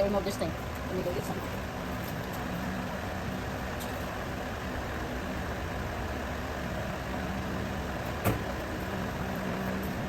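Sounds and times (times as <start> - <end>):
low background rumble and hiss: 0.0 - 10.0.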